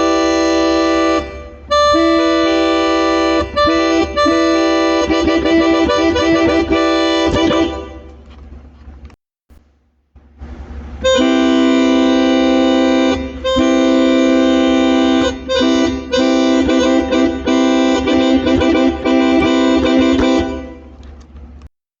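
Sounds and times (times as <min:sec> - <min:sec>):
electronic keyboard horn chord: 0:00.0 - 0:08.2, 0:11.0 - 0:21.0.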